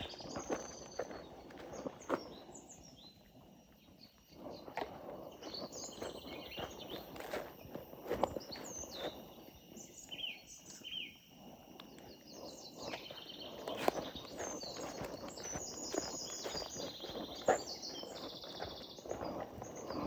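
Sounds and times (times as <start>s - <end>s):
birds chirping and trilling: 0.0s - 20.0s.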